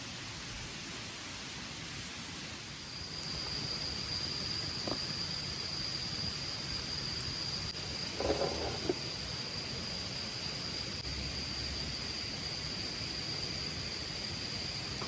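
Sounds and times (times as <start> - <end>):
outdoor ambience hiss: 0.0 - 15.0
high-pitched insect trill: 2.7 - 15.0.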